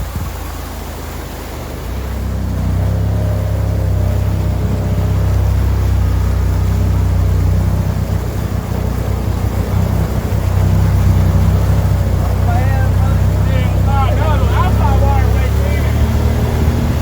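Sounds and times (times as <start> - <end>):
engine droning under throttle: 0.0 - 17.0.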